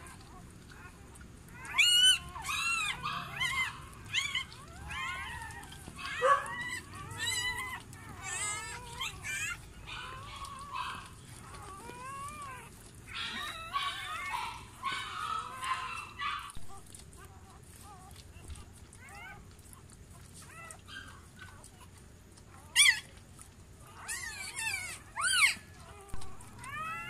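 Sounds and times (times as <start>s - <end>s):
puppies crying: 0.0s - 27.0s.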